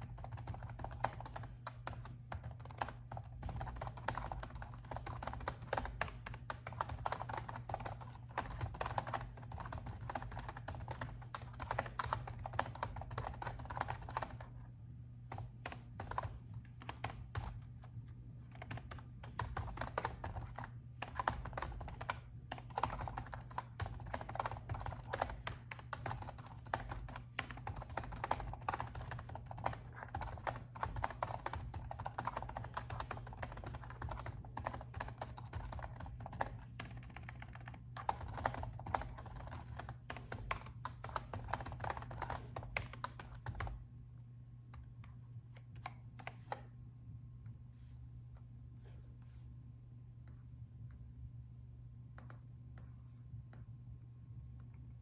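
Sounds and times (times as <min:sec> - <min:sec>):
typing on laptop keyboard: 0:00.0 - 0:14.6, 0:15.2 - 0:43.8, 0:44.8 - 0:46.7
steady low hum: 0:00.0 - 0:55.0.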